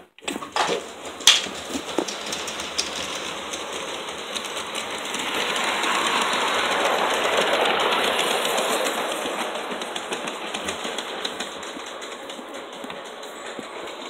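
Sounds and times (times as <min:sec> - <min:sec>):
model train rattling on track: 0:00.0 - 0:14.0.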